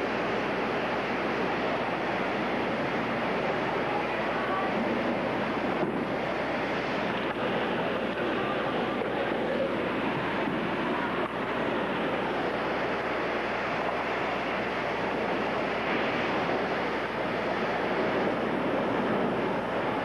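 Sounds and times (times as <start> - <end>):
strong wind rushing: 0.0 - 20.0.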